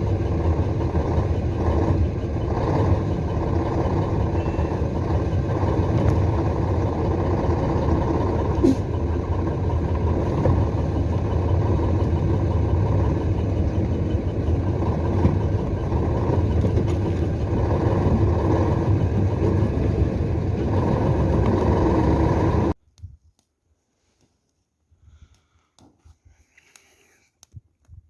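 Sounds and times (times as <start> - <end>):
vehicle engine droning: 0.0 - 22.8.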